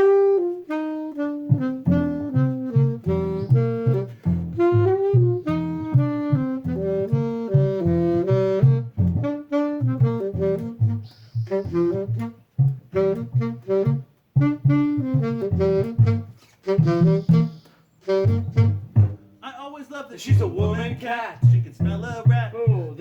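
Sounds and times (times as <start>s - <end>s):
jazzy saxophone melody: 0.0s - 19.4s, 20.3s - 23.0s
rhythm accompaniment: 1.1s - 19.2s, 20.3s - 23.0s.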